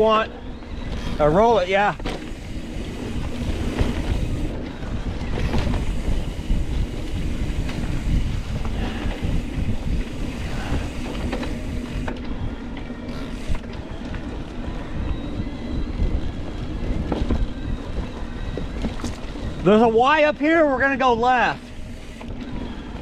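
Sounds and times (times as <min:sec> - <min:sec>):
bike rattling over rough trail: 0:00.0 - 0:23.0
low rumble of bike: 0:00.0 - 0:23.0
wind buffeting microphone: 0:00.0 - 0:23.0.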